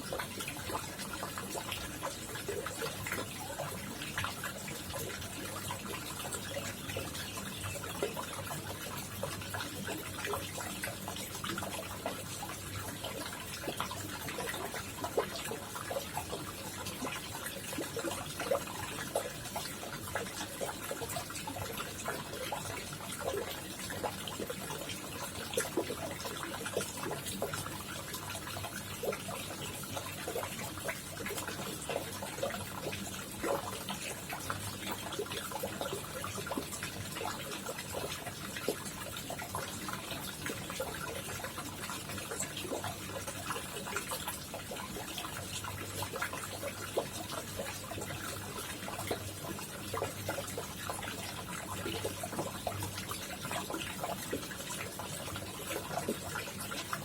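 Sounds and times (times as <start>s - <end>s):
water drips and plops: 0.0s - 57.0s.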